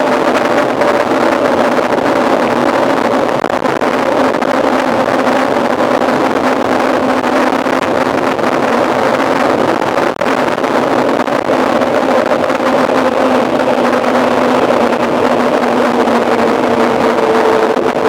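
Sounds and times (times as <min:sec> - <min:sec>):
bike tyre noise: 0:00.0 - 0:18.0
constant low hum: 0:00.0 - 0:18.0
wind rushing: 0:00.0 - 0:18.0.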